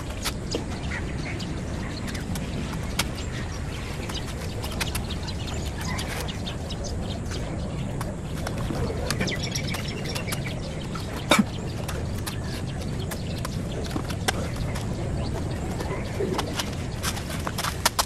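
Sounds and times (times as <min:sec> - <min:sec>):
birds chirping: 0:00.0 - 0:18.0
outdoor background hum: 0:00.0 - 0:18.0.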